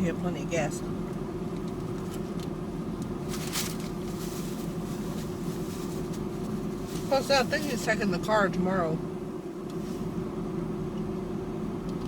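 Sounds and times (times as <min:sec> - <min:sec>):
car interior hum: 0:00.0 - 0:12.0.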